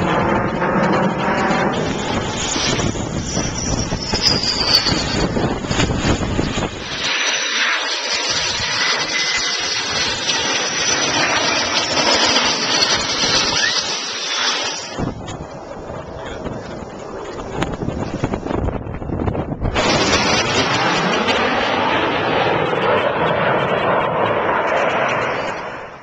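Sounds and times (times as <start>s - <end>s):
aircraft passing low overhead: 0.0s - 26.0s
wind noise: 0.0s - 26.0s.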